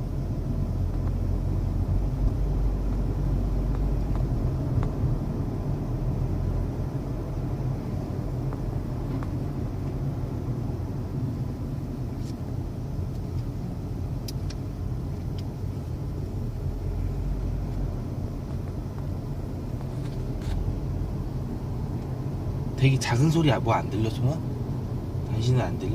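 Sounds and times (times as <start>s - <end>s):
road and engine rumble in car: 0.0s - 25.9s.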